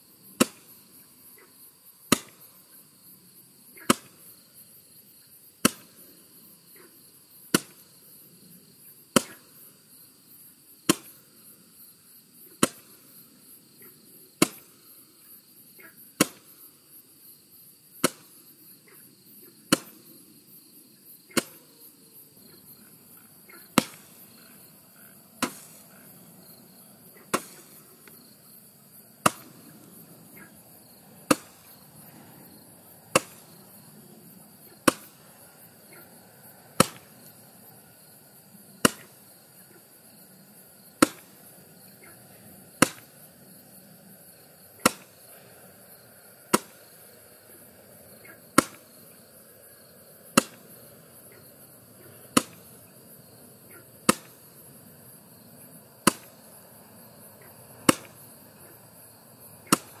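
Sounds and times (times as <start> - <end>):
faint steady hiss: 0.0 - 60.0.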